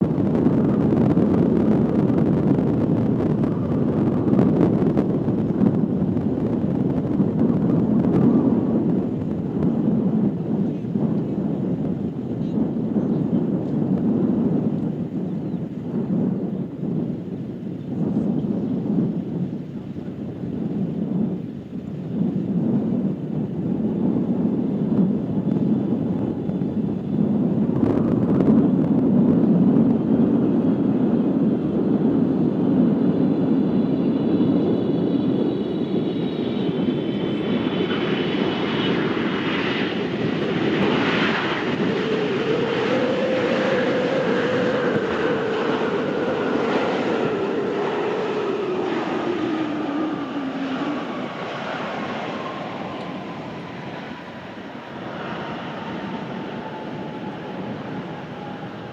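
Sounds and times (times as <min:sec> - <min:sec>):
jet engines rumbling and whining: 0:00.0 - 0:58.9.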